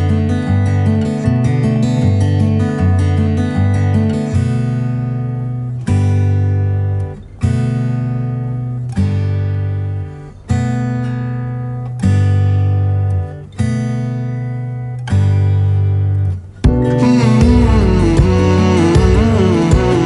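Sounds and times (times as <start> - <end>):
acoustic guitar chords strummed: 0.0 - 20.0.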